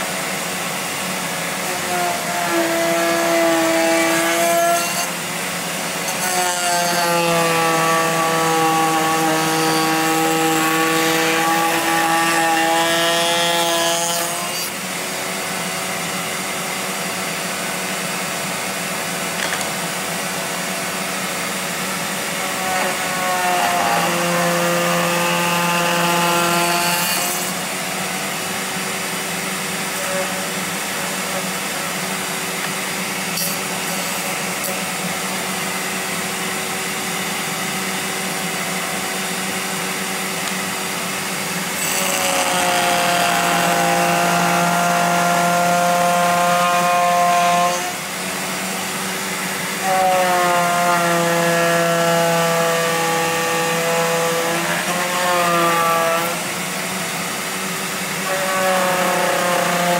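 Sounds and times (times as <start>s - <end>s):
router cutting wood: 0.0s - 59.9s.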